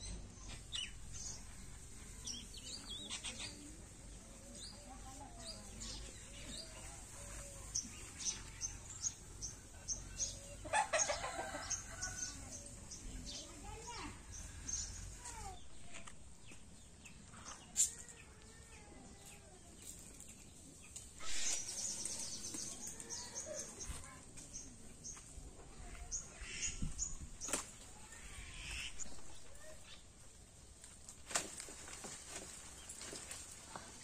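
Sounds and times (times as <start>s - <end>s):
small birds chirping: 0.0s - 30.5s.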